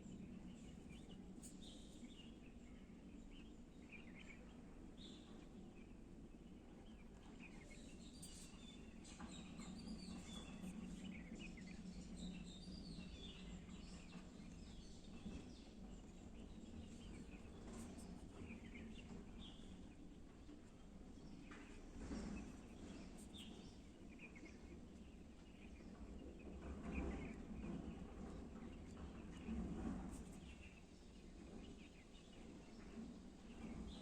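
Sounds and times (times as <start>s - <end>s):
faint birds chirping: 0.0s - 34.0s
low background hum: 0.0s - 34.0s.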